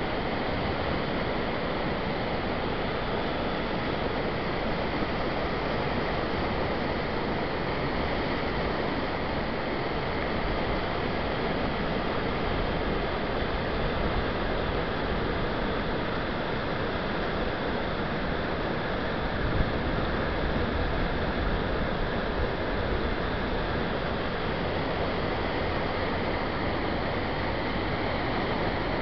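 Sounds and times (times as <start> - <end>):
whitewater rushing over a weir: 0.0 - 29.0.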